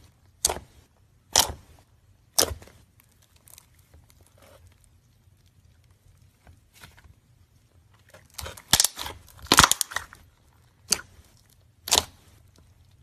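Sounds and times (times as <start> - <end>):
slime popping and crackling: 0.2 - 1.6, 2.2 - 6.9, 7.8 - 13.0.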